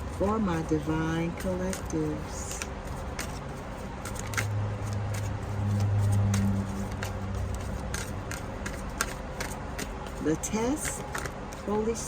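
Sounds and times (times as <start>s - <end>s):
cards being shuffled: 0.0s - 12.0s
low steady hum: 0.0s - 12.0s.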